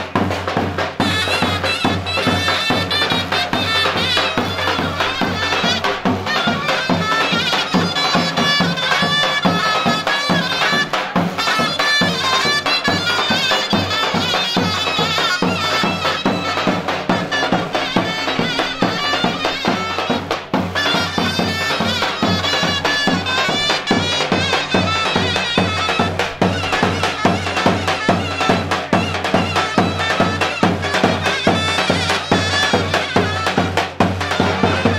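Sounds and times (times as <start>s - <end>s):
shrill reed wind instrument: 0.0s - 34.9s
steady drum beat: 0.0s - 34.9s.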